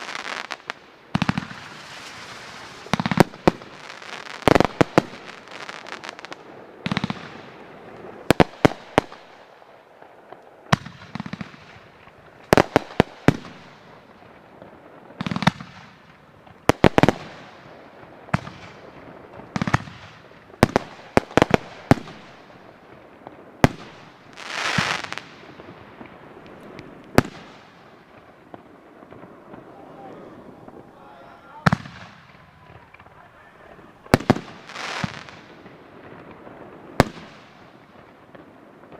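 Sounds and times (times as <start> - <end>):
fireworks banging: 0.0 - 9.4, 10.3 - 38.9
fireworks crackling burst: 0.0 - 38.9.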